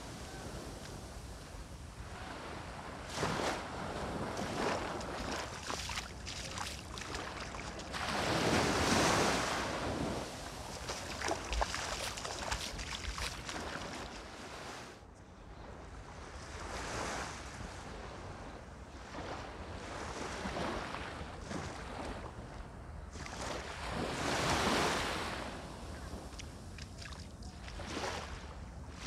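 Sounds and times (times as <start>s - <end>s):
small waves washing on shore: 0.0s - 15.0s, 16.0s - 29.0s.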